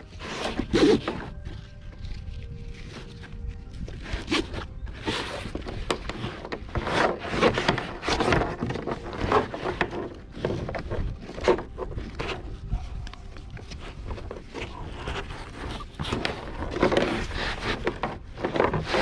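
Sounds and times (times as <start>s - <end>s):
straps pulled through clasps: 0.0s - 12.6s, 13.4s - 19.0s
straps scraping on plastic kayak: 0.0s - 19.0s.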